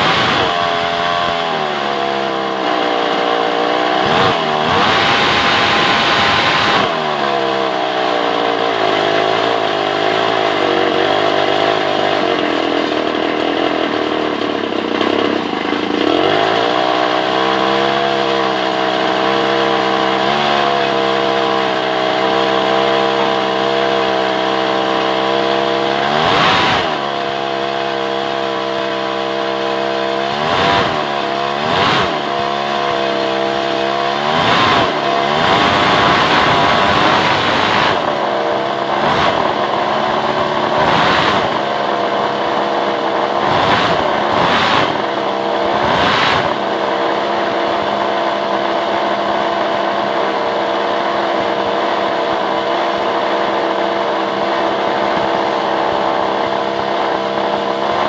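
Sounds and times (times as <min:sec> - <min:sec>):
chainsaw engine revving and idling: 0:00.0 - 0:58.0.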